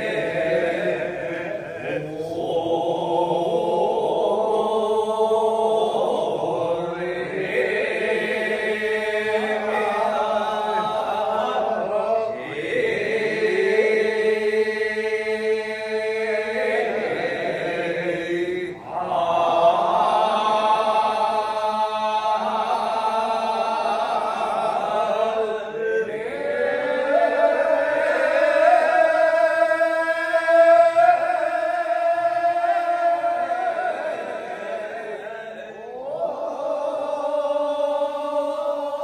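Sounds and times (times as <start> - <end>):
group of men chanting: 0.0 - 39.0.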